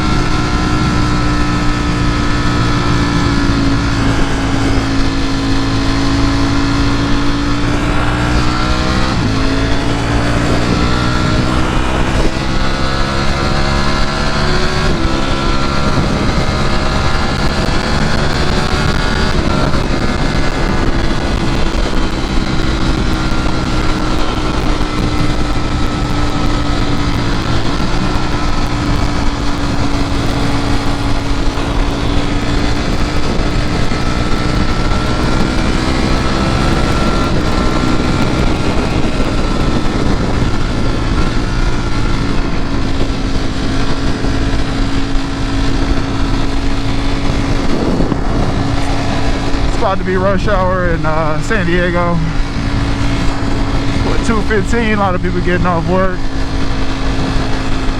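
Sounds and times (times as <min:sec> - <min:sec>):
motorcycle engine cruising: 0:00.0 - 0:57.9
wind noise: 0:00.0 - 0:57.9.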